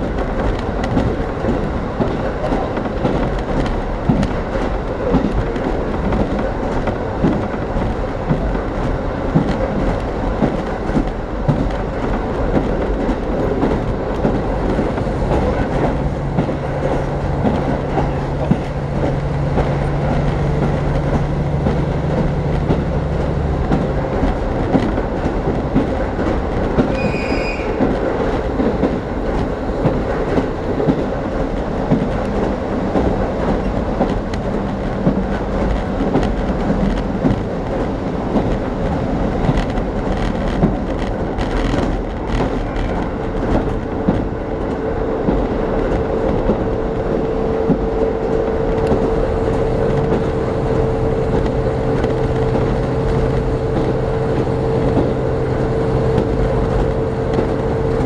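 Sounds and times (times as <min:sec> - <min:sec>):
train wheels rumbling: 0:00.0 - 0:58.0
wheels clicking over rail joints: 0:00.0 - 0:58.0.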